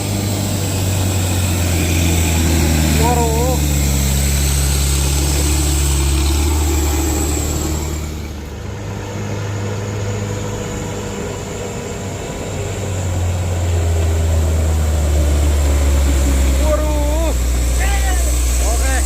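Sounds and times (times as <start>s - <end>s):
heavy vehicle engine humming: 0.0s - 19.0s.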